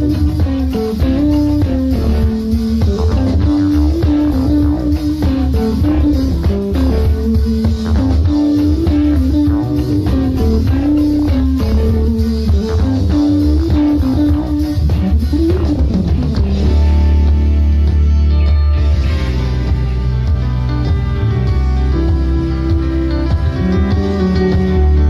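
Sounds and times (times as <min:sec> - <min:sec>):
drum kit: 0:00.0 - 0:25.0
electric bass: 0:00.0 - 0:25.0
jazz fusion band playing: 0:00.0 - 0:25.0.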